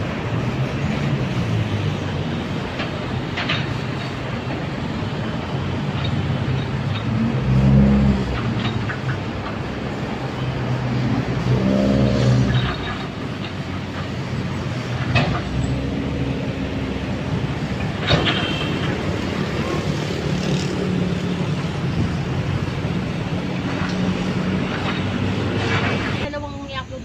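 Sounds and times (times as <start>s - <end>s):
vehicle engines passing: 0.0s - 27.0s.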